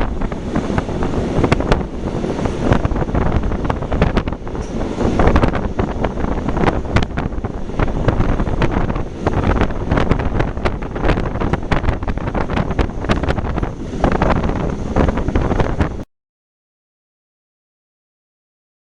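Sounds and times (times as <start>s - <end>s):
train wheels clicking over rails: 0.0s - 16.0s
train rumble: 0.0s - 16.1s
wind buffeting microphone: 0.0s - 16.1s.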